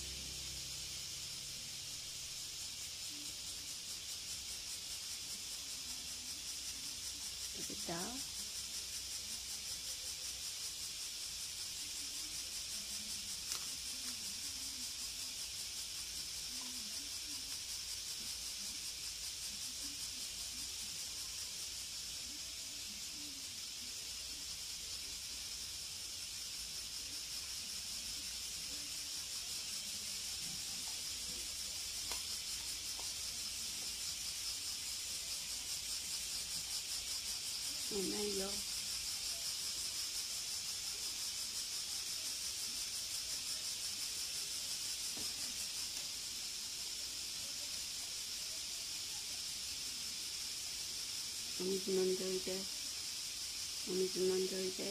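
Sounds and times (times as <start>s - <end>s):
steady high hiss: 0.0s - 54.9s.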